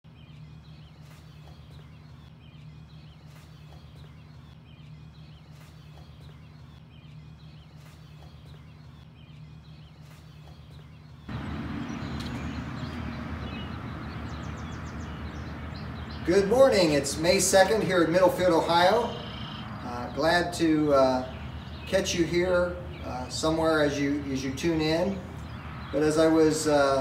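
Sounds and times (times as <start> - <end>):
bird calling: 0.1 - 27.0.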